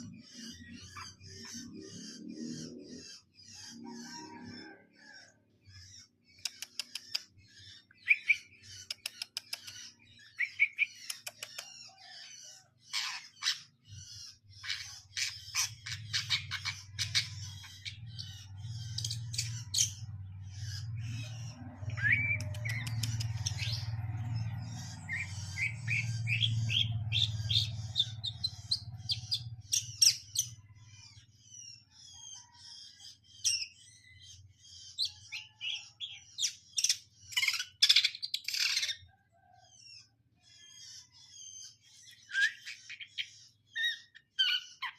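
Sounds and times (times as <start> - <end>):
bird singing chirps and clicks: 5.7 - 39.1, 39.8 - 44.9.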